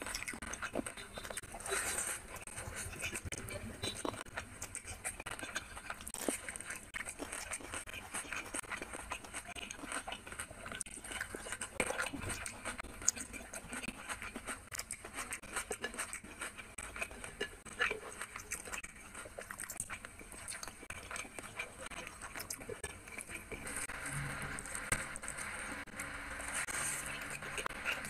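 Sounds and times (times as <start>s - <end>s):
fingers squishing rice: 0.0s - 28.0s
wet chewing and lip smacking: 0.0s - 28.0s.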